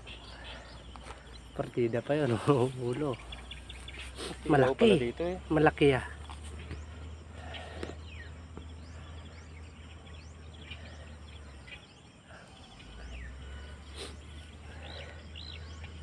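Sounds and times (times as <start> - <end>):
insects: 0.0 - 16.0
small birds chirping: 0.0 - 16.0
steady low rumble: 0.0 - 16.0.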